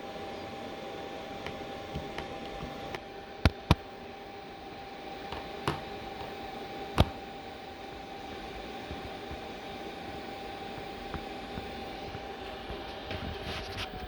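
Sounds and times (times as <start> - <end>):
cooling fan humming: 0.0 - 14.0.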